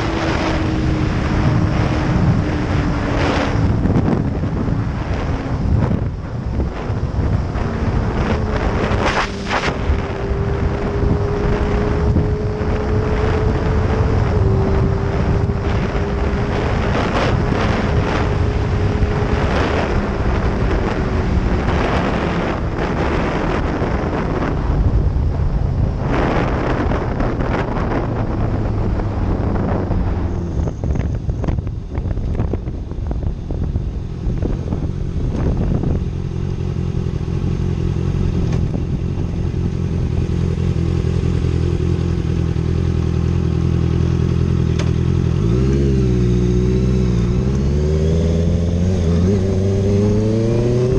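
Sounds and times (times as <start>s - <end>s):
motorcycle engine cruising: 0.0s - 50.9s
wind rushing over microphone: 0.0s - 50.9s.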